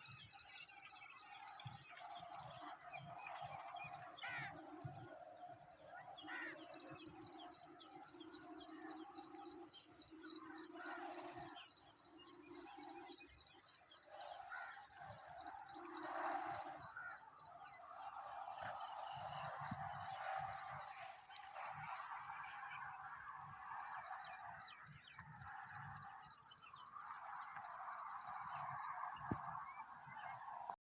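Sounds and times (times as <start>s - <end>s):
birds chirping and calling: 0.1s - 30.7s.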